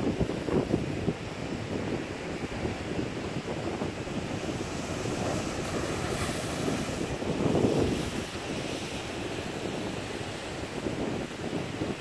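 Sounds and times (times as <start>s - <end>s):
ocean waves breaking on rocks: 0.0s - 12.0s.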